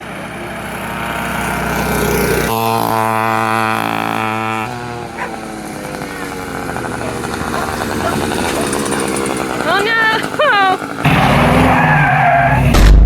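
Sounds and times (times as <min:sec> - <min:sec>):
small engine revving: 0:00.0 - 0:12.8.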